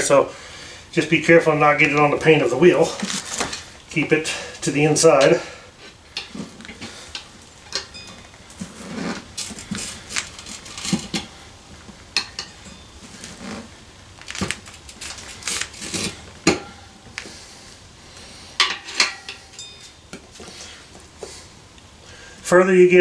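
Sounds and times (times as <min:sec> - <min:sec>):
tire irons clinking on wheel rim: 0:00.9 - 0:17.4, 0:18.1 - 0:21.9.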